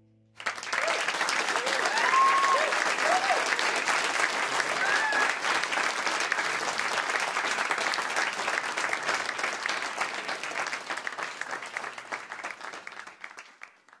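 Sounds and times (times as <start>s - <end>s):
audience applauding: 0.4s - 14.0s.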